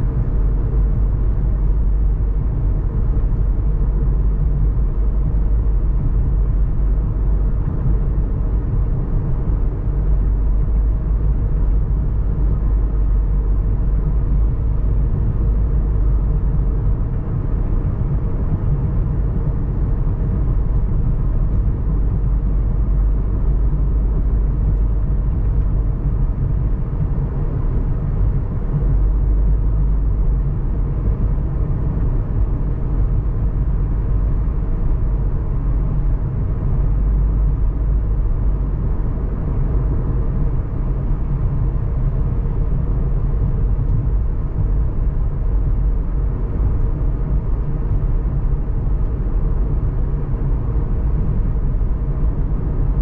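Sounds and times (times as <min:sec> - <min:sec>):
car engine and tyre noise: 0:00.0 - 0:53.0.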